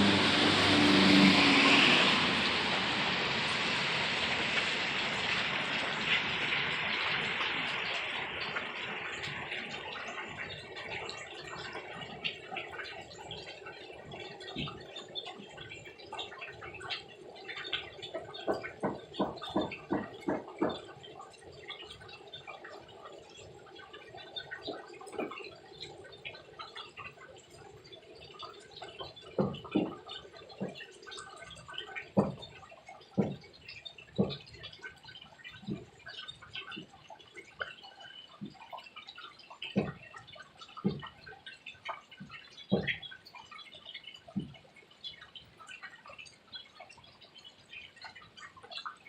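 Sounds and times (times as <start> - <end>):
water gurgling with pops and drips: 0.0 - 49.0.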